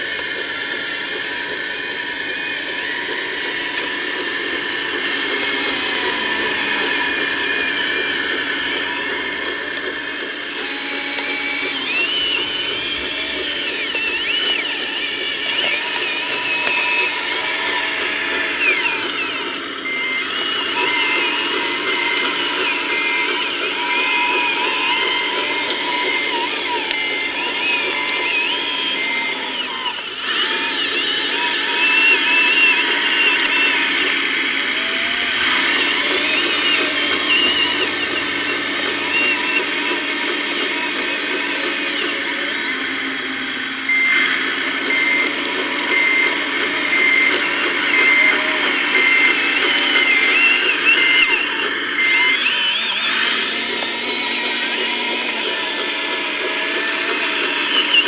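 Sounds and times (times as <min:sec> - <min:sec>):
electric motors whining: 0:00.0 - 0:58.0
reversing beeper: 0:04.8 - 0:58.0.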